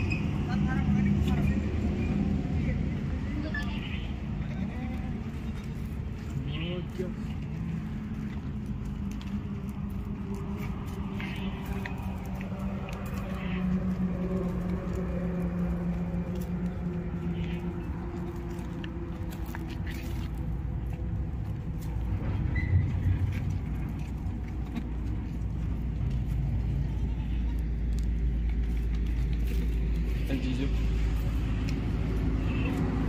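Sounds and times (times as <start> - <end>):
deep rumble: 0.0 - 33.0
low engine hum: 0.0 - 33.0.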